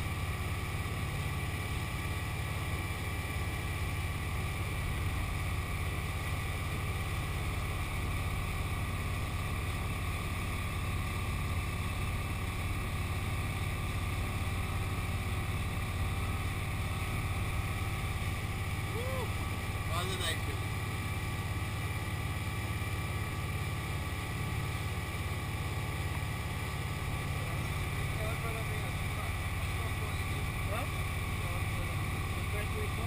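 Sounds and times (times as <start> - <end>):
speedboat engine drone: 0.0 - 33.0.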